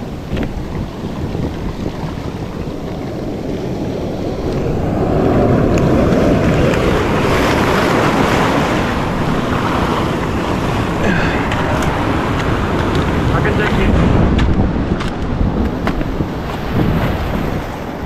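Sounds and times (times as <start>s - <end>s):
surf breaking: 0.0s - 18.0s
wind buffeting microphone: 0.0s - 18.0s.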